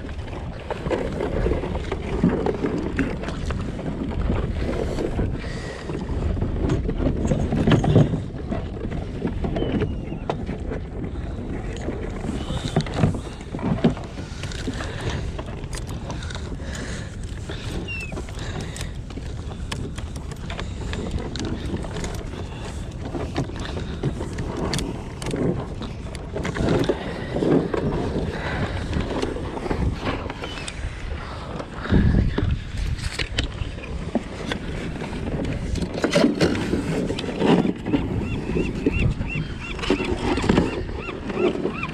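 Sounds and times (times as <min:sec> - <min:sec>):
wind rumbling on microphone: 0:00.0 - 0:41.9.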